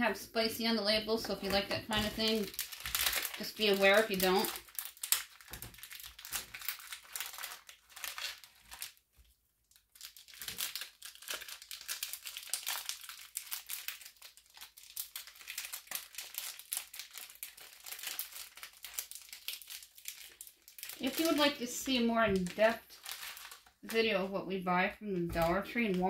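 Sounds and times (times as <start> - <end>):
plastic packaging crinkling: 0.9 - 24.3.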